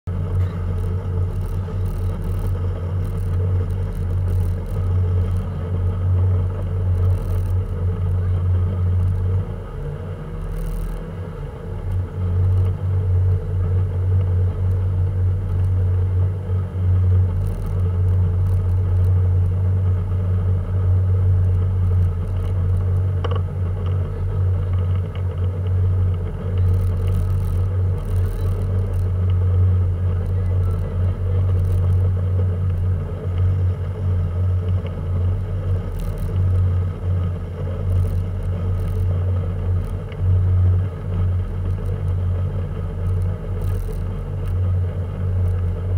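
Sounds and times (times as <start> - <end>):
motorboat engine drone: 0.0 - 45.9.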